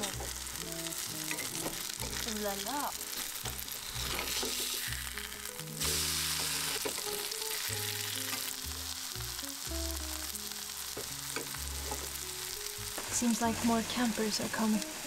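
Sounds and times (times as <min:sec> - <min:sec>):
pancake sizzling in frying pan: 0:00.0 - 0:15.0.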